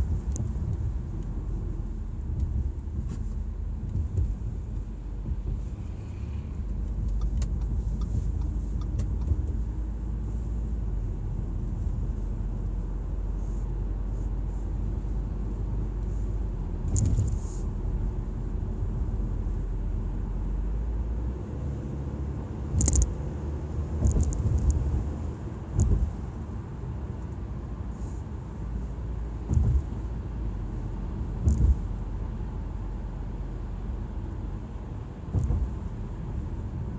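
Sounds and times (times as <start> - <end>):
car engine rumbling: 0.0 - 36.9.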